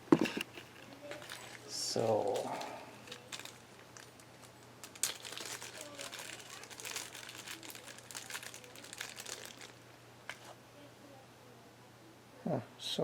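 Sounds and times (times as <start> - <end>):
crinkling: 0.1 - 10.6.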